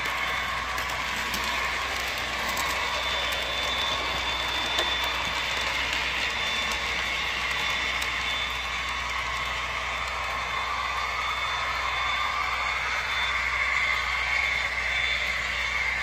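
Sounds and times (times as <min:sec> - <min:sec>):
high motor whine: 0:00.0 - 0:16.0
model train wheels on rails: 0:00.0 - 0:16.0.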